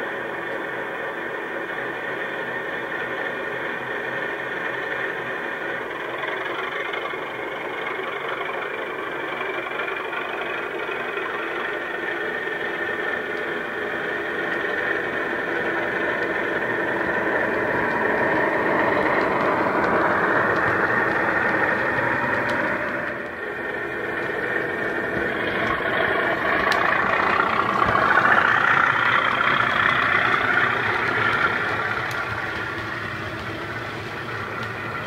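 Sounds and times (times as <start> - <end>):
diesel engine sound through small speakers: 0.0 - 35.0.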